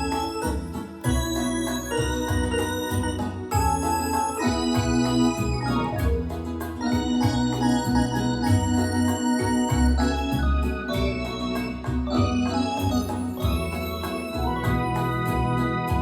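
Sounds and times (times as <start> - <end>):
synthesizer playing organ-like chords: 0.0 - 16.0.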